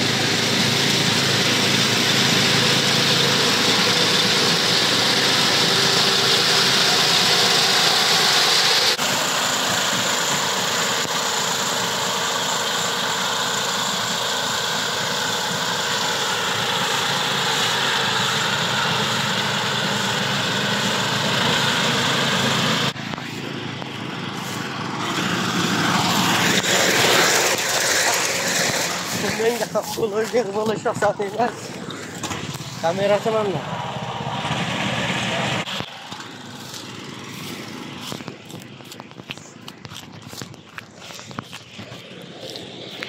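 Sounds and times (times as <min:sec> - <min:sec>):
small engine running under load: 0:00.0 - 0:43.0.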